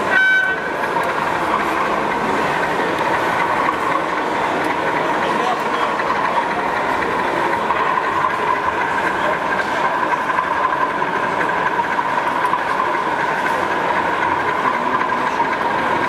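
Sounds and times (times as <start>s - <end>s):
model train drone and whine: 0.0s - 16.0s.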